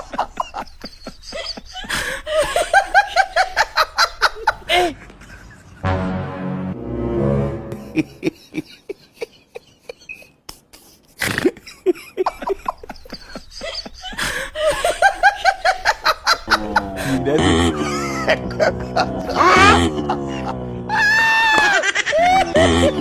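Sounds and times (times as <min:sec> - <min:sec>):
person laughing: 0:00.0 - 0:05.9, 0:07.7 - 0:23.0.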